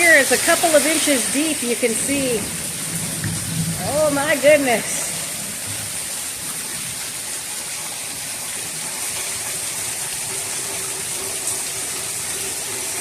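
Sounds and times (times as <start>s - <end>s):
heavy rain splashing on patio: 0.0s - 13.0s.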